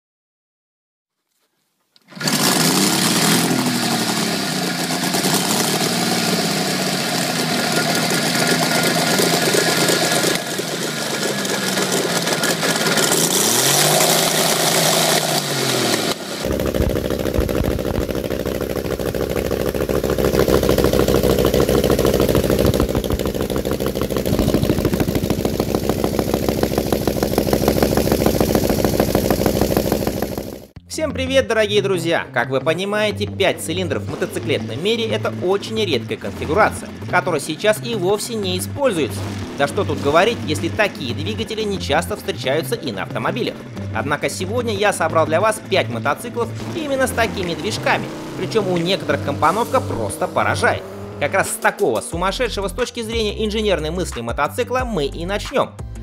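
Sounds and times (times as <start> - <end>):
motorcycle engine revving: 2.1 - 30.8, 33.4 - 52.3
engine running with deep even beat: 2.2 - 30.8, 33.0 - 56.0.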